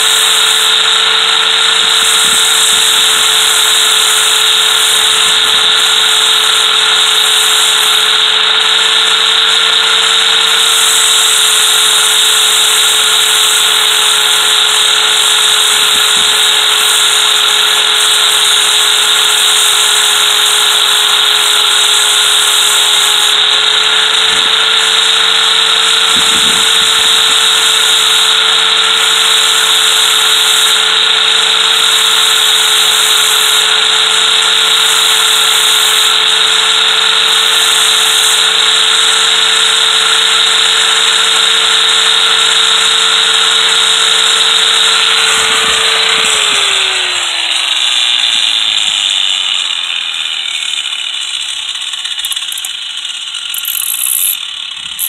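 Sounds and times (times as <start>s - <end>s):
grinding hiss on metal: 0.0s - 39.8s, 40.4s - 55.0s
angle grinder motor whine: 0.0s - 55.0s.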